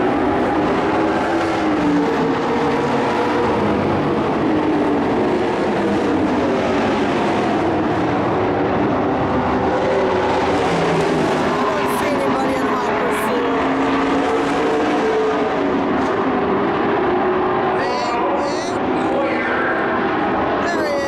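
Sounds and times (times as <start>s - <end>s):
race truck engines: 0.0s - 21.0s.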